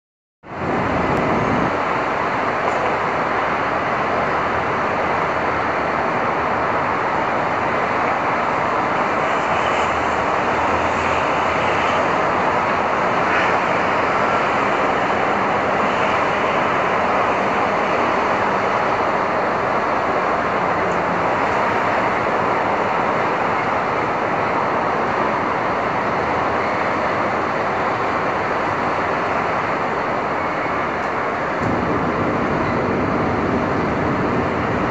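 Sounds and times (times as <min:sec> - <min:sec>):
traffic: 0:00.4 - 0:34.9
rain: 0:00.5 - 0:34.9.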